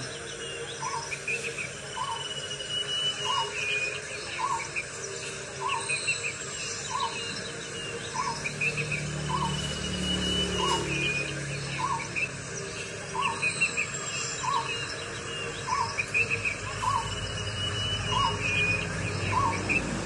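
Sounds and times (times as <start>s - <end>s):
higher bird chirps: 0.0s - 20.0s
insect-like whine: 0.0s - 20.0s.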